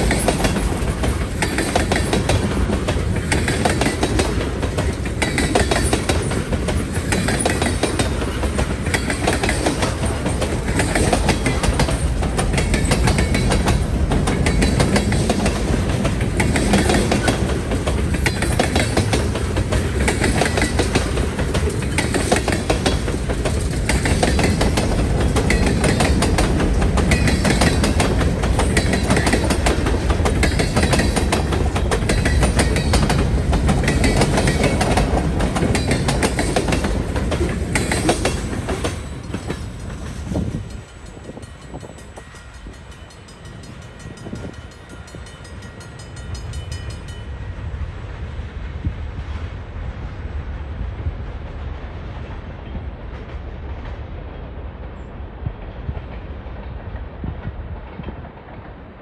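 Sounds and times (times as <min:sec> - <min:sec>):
train wheels clattering over rails: 0:00.0 - 0:47.3.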